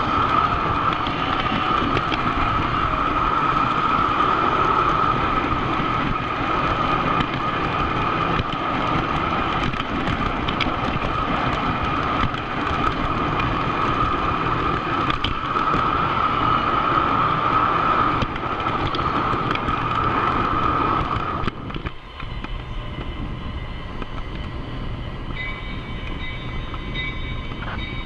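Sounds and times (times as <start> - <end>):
high steady whine: 0.0 - 28.0
model train rolling on track: 0.0 - 28.0.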